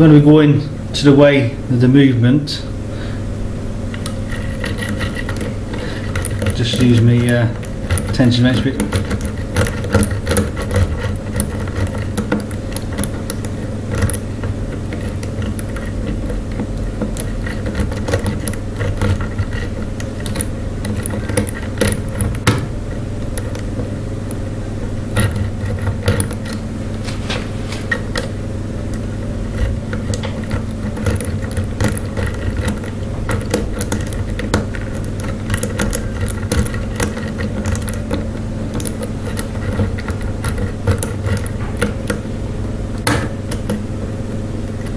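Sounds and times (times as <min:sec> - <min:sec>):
steady low hum: 0:00.0 - 0:44.9
lock pick clicking and scraping: 0:03.9 - 0:24.4, 0:25.1 - 0:26.7, 0:27.9 - 0:42.2.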